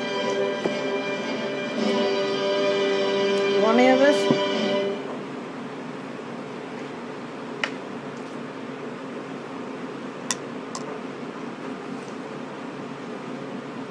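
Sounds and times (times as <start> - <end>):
fan hum and hiss: 0.0 - 13.9.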